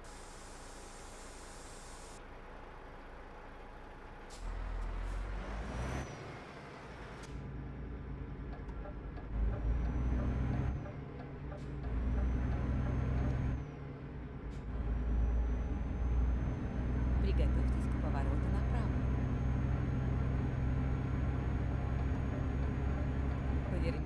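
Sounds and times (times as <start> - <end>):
truck diesel engine accelerating: 0.0 - 24.0.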